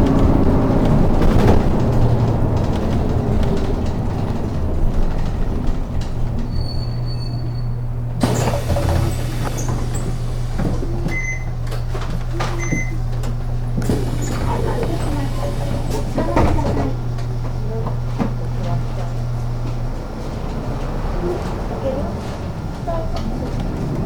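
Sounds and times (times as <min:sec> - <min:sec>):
bus engine humming: 0:00.0 - 0:24.0.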